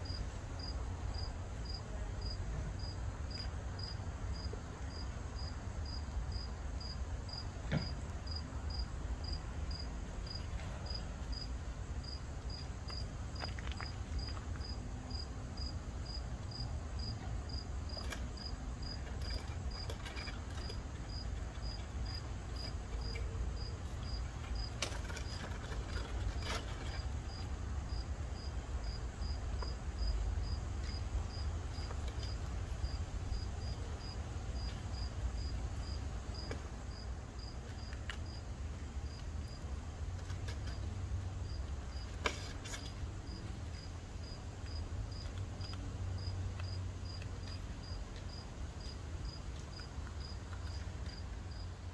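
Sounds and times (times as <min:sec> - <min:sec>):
cricket chirping: 0:00.0 - 0:38.4, 0:41.4 - 0:51.8
constant low rumble: 0:00.0 - 0:51.9.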